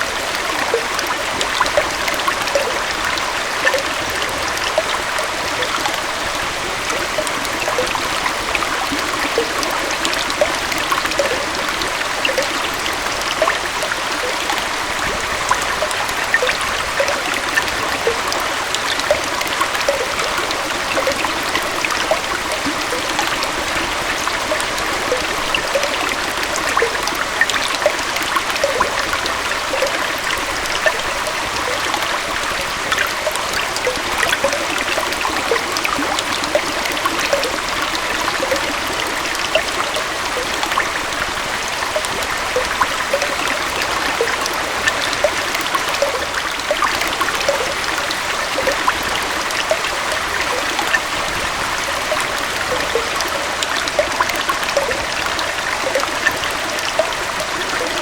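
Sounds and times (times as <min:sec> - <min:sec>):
gentle waterfall rushing: 0:00.0 - 0:58.0
small water splashes and bubbles: 0:00.0 - 0:58.0.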